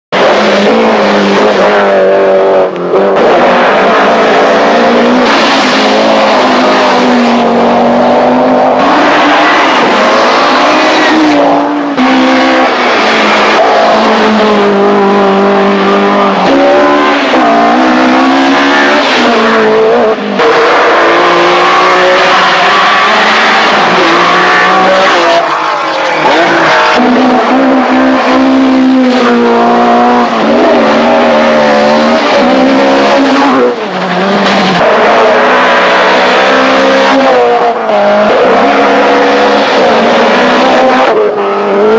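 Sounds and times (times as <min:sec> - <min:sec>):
rally car engines revving: 0:00.1 - 0:41.9.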